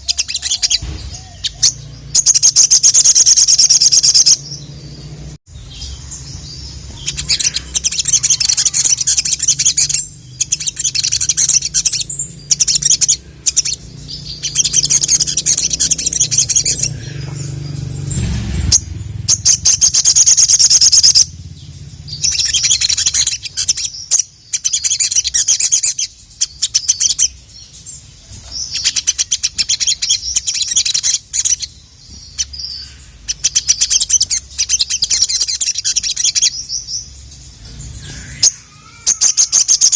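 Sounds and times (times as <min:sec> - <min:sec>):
songbird chattering trills: 0:00.0 - 0:39.9.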